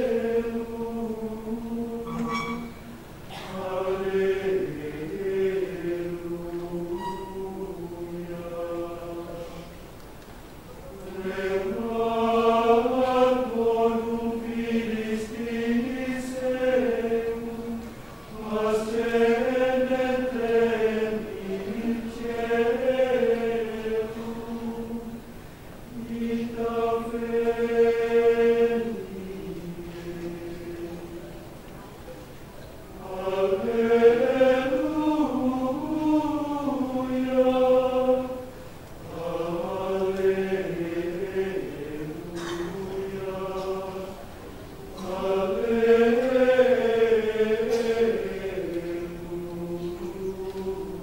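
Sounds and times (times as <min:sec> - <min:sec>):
men's choir chanting in unison: 0:00.0 - 0:09.8, 0:10.9 - 0:31.4, 0:33.0 - 0:51.0.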